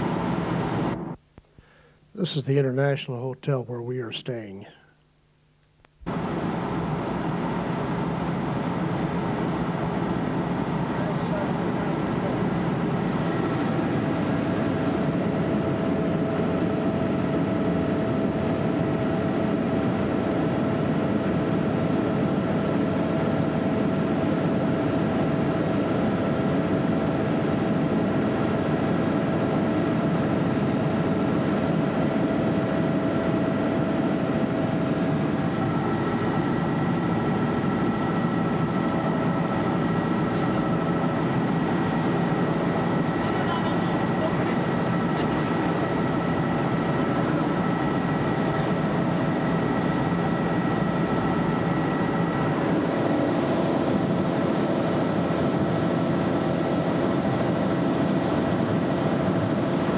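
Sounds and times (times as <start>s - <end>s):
helicopter engine and rotor: 0.0s - 1.2s, 6.1s - 59.9s.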